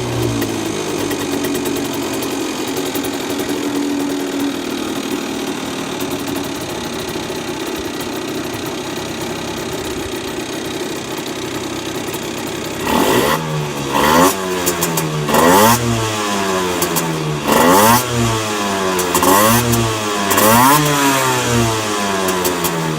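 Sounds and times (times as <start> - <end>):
engine knocking: 0.0 - 22.9
motorcycle engine idling and revving: 0.0 - 22.9.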